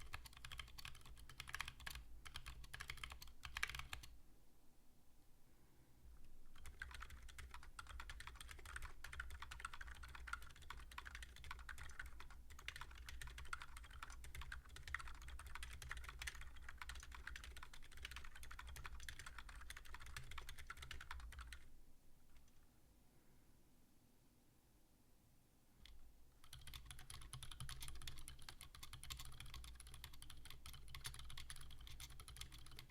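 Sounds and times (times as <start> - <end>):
fast typing on mechanical keyboard: 0.0 - 4.1, 6.5 - 21.7, 25.8 - 32.9.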